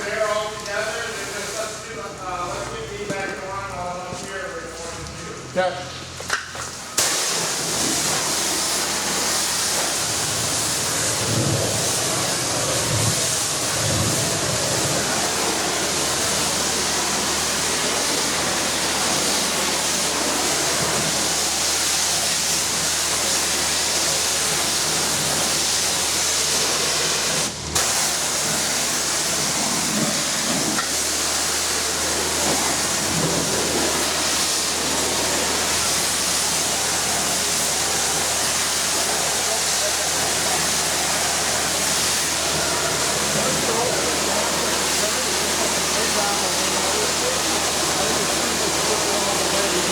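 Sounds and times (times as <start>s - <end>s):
pressure washer spraying water: 0.0s - 49.9s.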